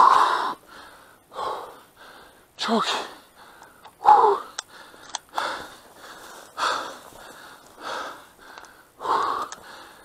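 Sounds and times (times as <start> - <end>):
person breathing hard: 0.0 - 10.0.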